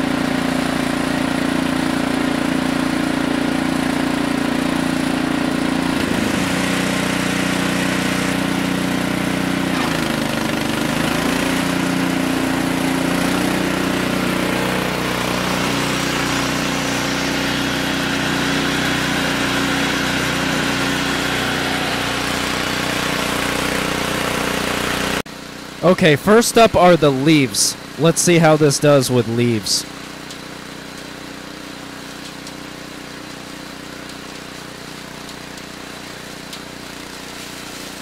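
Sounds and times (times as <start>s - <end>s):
single-cylinder engine running: 0.0s - 38.0s.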